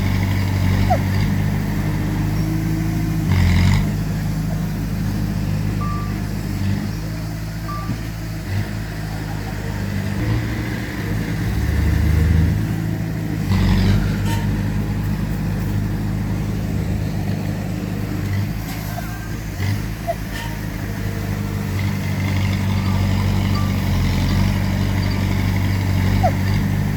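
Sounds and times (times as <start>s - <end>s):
heavy machine diesel engines: 0.0s - 26.9s.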